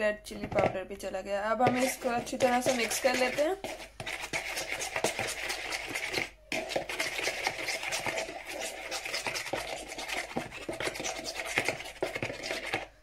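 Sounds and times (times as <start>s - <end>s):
metal spoon scraping steel bowl: 1.6s - 13.0s.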